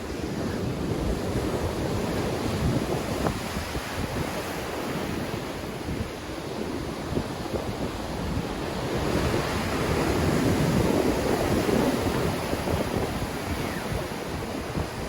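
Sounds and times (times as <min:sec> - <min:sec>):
waves surging and breaking: 0:00.0 - 0:15.0
wind buffeting microphone: 0:00.0 - 0:15.0.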